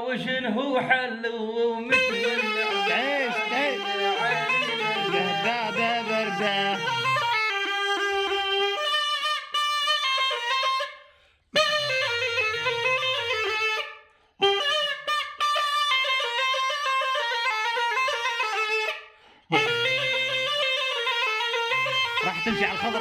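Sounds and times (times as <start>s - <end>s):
double-pipe reed clarinet melody: 1.8s - 23.0s.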